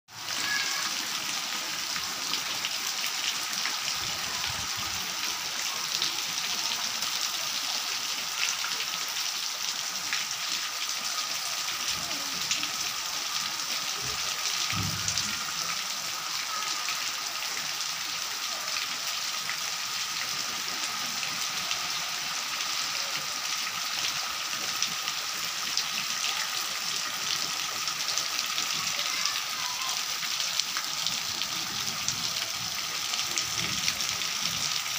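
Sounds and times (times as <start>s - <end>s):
heavy rain pattering: 0.1s - 34.9s
water dripping from roof: 0.2s - 34.9s.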